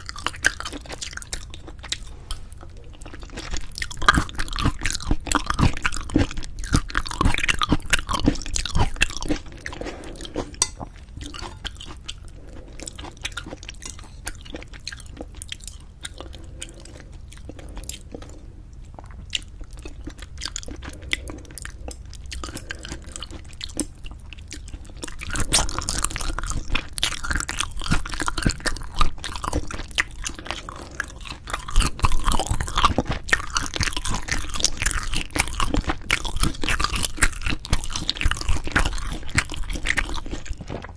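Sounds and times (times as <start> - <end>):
close chewing with wet smacks: 0.0 - 40.9.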